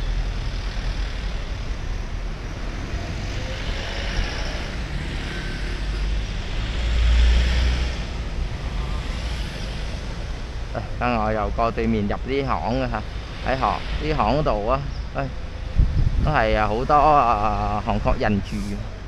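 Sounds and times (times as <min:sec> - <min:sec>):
traffic rumble: 0:00.0 - 0:19.0
vehicle passing close: 0:00.0 - 0:19.0.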